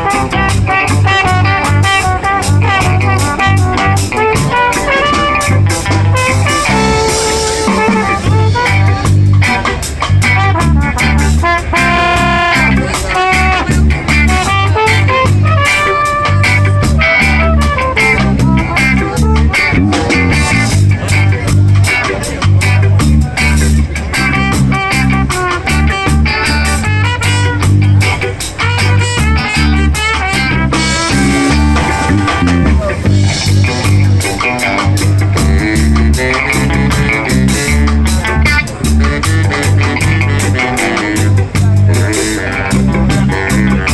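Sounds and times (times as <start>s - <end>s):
bass: 0.0s - 43.9s
drum kit: 0.0s - 43.9s
electric guitar: 0.0s - 43.9s
live band playing ska: 0.0s - 43.9s.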